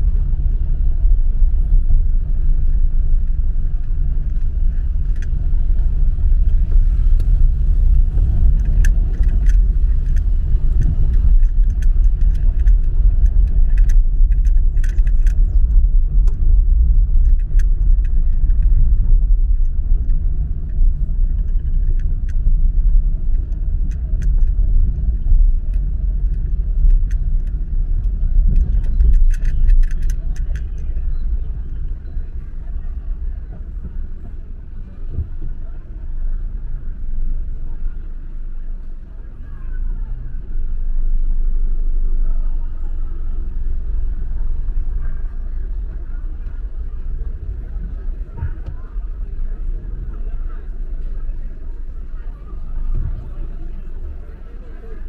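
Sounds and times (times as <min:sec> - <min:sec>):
car road and engine rumble: 0:00.0 - 0:55.0
light clicks and rattles: 0:01.7 - 0:55.0.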